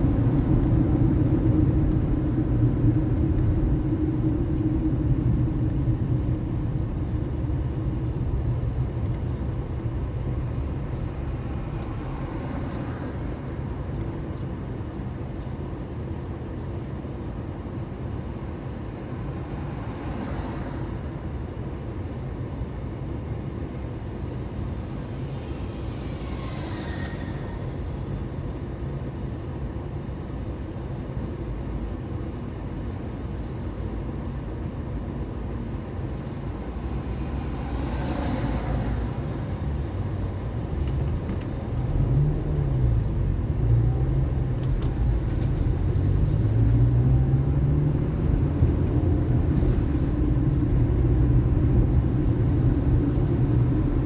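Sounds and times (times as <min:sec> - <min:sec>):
vehicles passing: 0:00.0 - 0:16.7, 0:18.7 - 0:31.9, 0:32.7 - 0:54.0
car engine and road rumble: 0:00.0 - 0:54.0.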